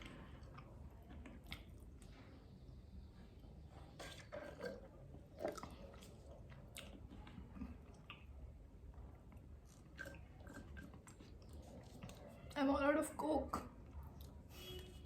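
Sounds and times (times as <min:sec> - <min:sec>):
faint chewing: 0:00.0 - 0:02.6, 0:03.2 - 0:12.8, 0:13.5 - 0:14.5.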